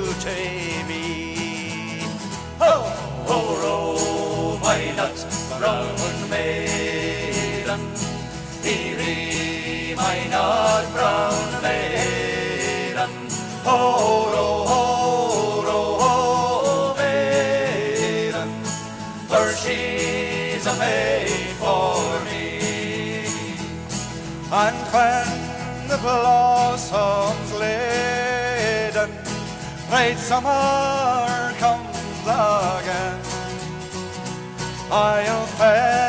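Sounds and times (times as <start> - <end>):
acoustic guitars: 0.0 - 36.0
bass guitar: 0.0 - 36.0
folk melody line: 0.0 - 36.0.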